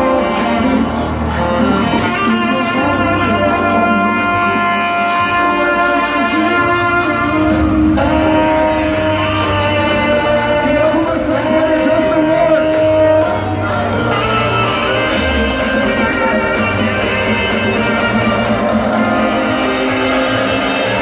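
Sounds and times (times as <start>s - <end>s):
loud electronic dance music: 0.0s - 21.0s.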